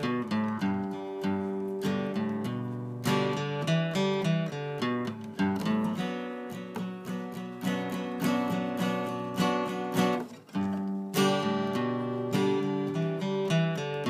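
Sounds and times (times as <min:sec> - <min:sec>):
acoustic guitar plucking: 0:00.0 - 0:14.0.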